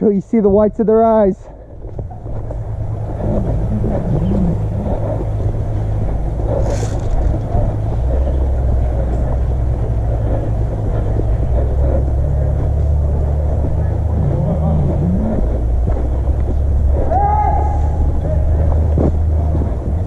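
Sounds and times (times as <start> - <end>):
low engine drone: 1.4 - 20.0.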